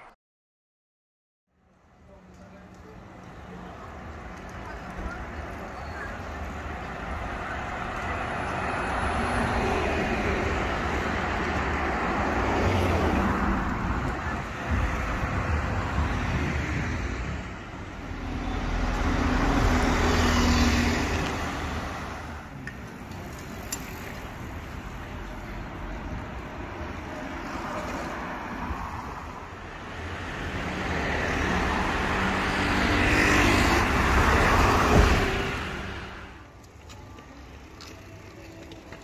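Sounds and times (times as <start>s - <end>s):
cars driving past: 2.1s - 36.5s.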